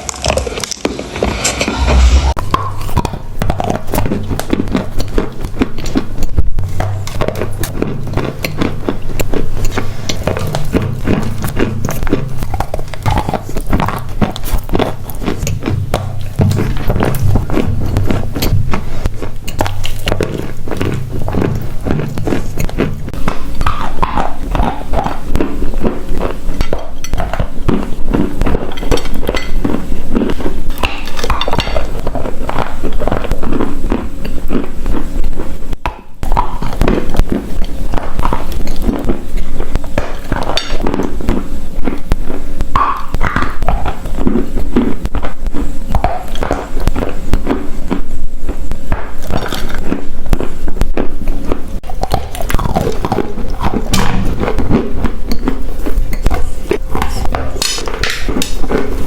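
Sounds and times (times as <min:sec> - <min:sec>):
crunching and chewing clay: 0:00.0 - 0:59.0.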